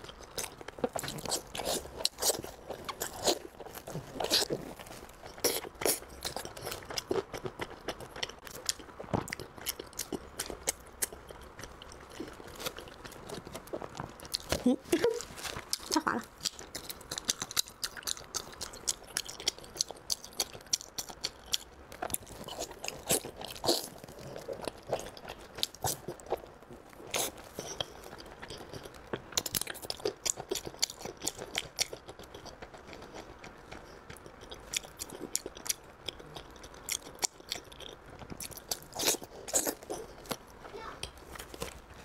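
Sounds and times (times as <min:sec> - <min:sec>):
wet chewing and lip-smacking: 0:00.0 - 0:41.8.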